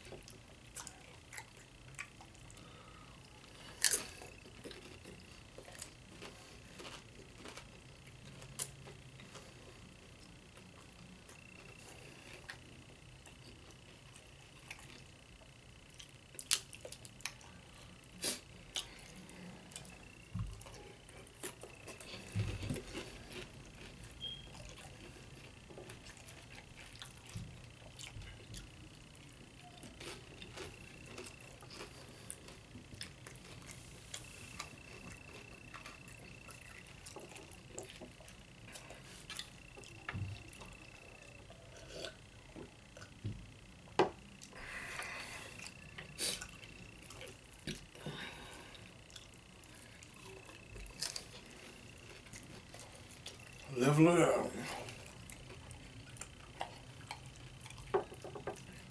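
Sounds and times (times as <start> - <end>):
wet chewing: 3.5 - 43.2, 48.6 - 53.7, 54.7 - 58.9.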